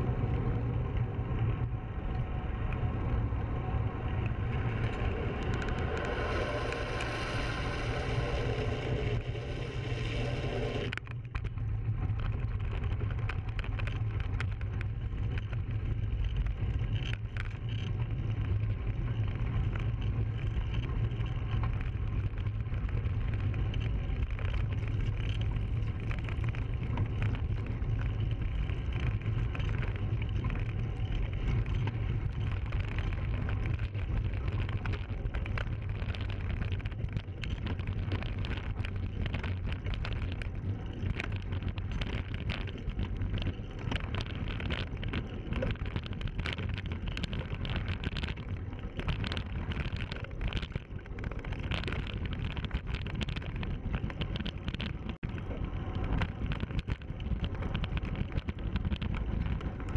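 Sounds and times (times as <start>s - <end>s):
bicycle tyres rolling: 0.0s - 59.9s
bike rattling over trail: 0.0s - 59.9s
wind buffeting microphone: 0.0s - 59.9s.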